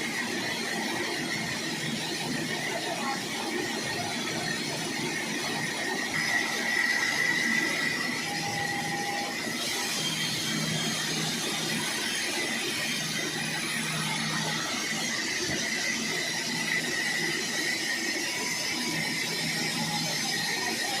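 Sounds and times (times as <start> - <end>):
sawmill saw whining: 0.0 - 21.0.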